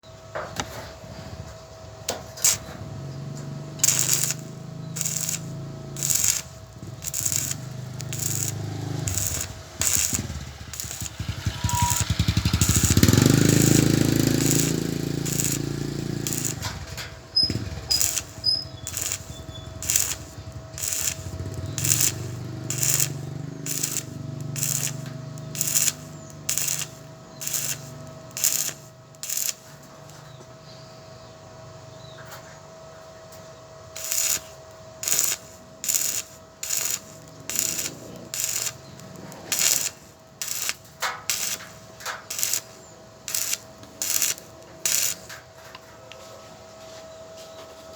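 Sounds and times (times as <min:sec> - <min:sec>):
low electrical buzz: 0:00.1 - 0:32.0, 0:32.9 - 0:45.7
arc welding bursts: 0:02.2 - 0:30.2, 0:33.9 - 0:45.5.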